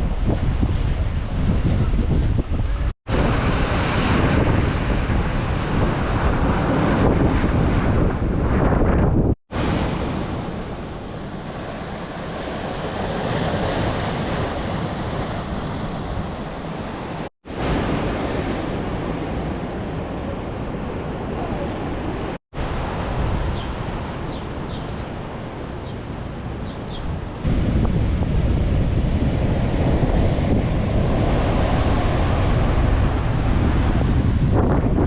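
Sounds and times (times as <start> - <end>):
wind rumbling on microphone: 0.0 - 35.0
sea surf breaking: 3.1 - 8.2, 9.5 - 26.6, 27.4 - 35.0.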